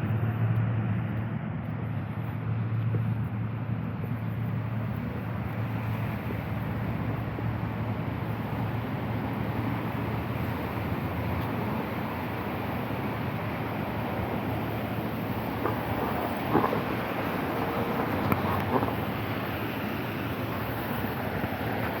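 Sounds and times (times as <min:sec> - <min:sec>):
low hum of traffic: 0:00.0 - 0:22.0
wind on microphone: 0:04.0 - 0:22.0.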